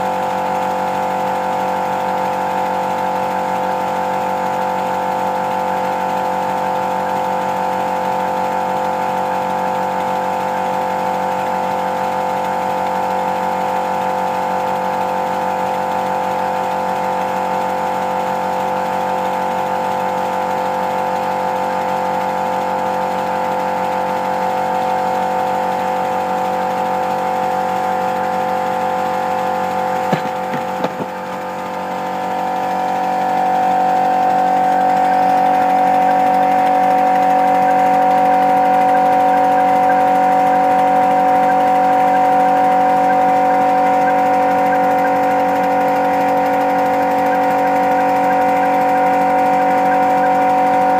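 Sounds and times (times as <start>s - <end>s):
model locomotive mechanical hum: 4.6s - 50.9s.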